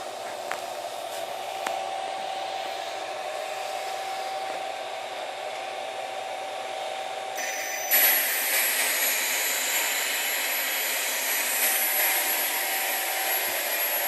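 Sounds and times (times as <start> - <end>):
electric motor whir and whine: 0.8 - 14.0.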